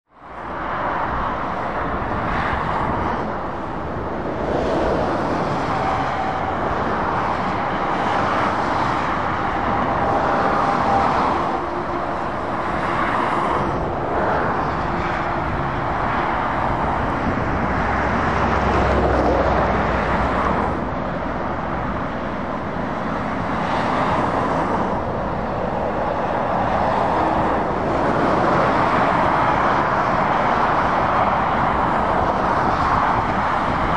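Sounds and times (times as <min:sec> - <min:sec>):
vehicles passing: 0:00.1 - 0:33.9.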